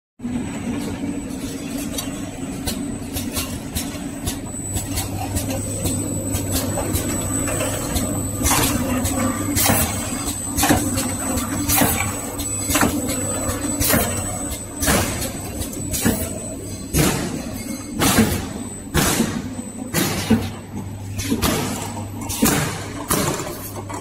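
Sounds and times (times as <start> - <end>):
high machine whine: 0.2 - 24.0
sealing machine humming: 0.7 - 24.0.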